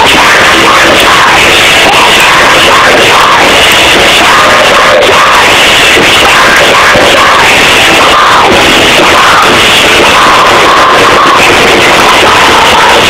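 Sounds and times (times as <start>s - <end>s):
live band playing loudly: 0.0s - 13.0s
person singing: 0.0s - 13.0s.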